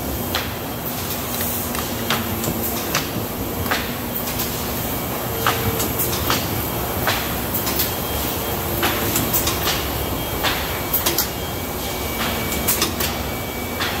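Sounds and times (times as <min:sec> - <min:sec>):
printing press rattling: 0:00.0 - 0:14.0.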